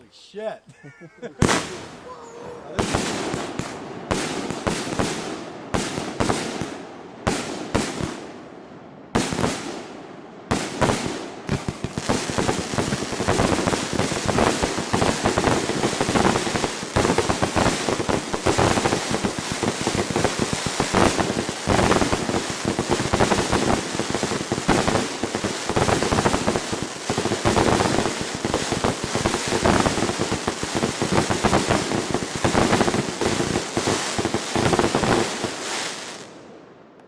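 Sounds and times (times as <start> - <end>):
fireworks bangs and crackles: 1.4 - 2.1, 2.7 - 36.6.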